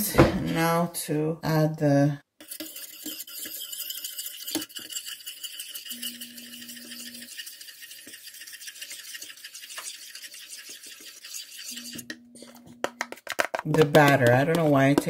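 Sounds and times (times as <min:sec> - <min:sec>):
metal utensil scraping a pot: 0:02.4 - 0:15.0.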